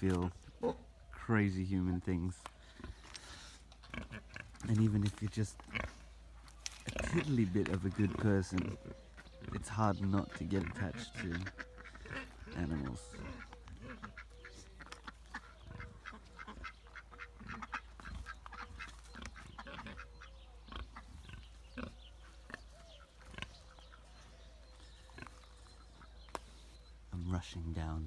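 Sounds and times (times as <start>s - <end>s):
ducks and geese calling: 0.0s - 28.0s.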